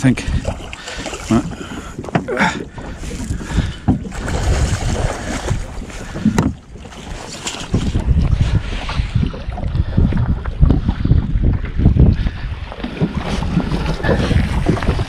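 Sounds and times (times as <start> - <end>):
choppy water: 0.0 - 15.0
wind buffeting microphone: 0.0 - 15.0.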